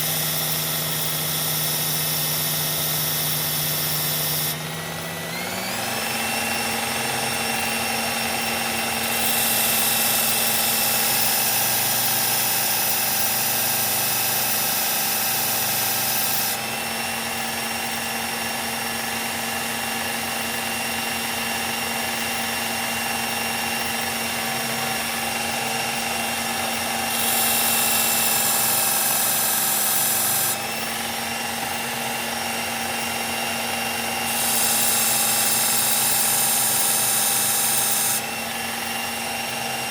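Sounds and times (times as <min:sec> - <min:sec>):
knife grinding on abrasive belt: 0:00.0 - 0:18.7, 0:19.7 - 0:39.9
belt sharpener motor whine: 0:00.0 - 0:39.9.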